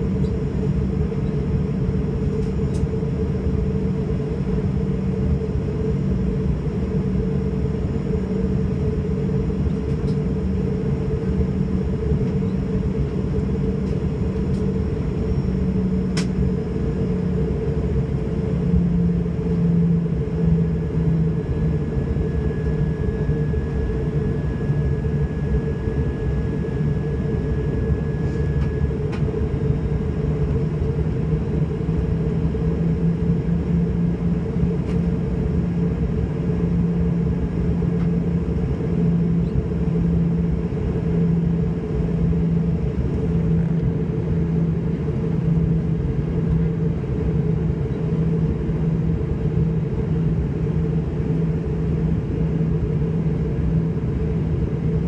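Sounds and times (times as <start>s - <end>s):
airliner engine drone: 0.0s - 55.0s
low throbbing hum: 0.0s - 55.0s.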